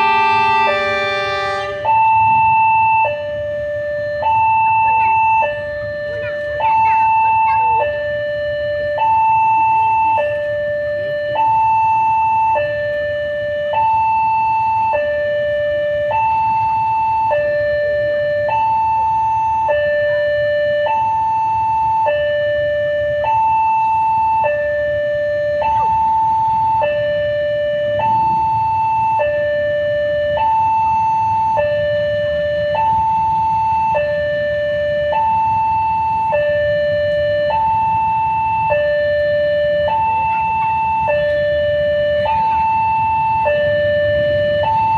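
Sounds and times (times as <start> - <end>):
two-tone level crossing alarm: 0.0 - 44.9.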